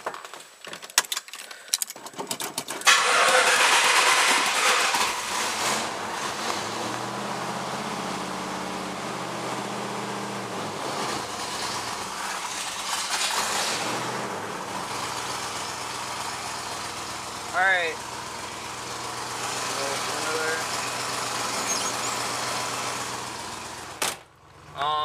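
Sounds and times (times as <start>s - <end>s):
car engine idling: 2.9s - 25.0s.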